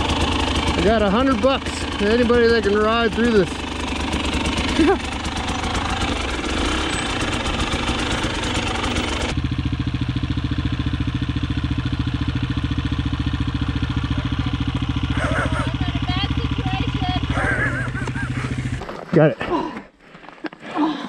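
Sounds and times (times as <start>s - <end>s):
dirt bike engine idling: 0.0s - 19.7s.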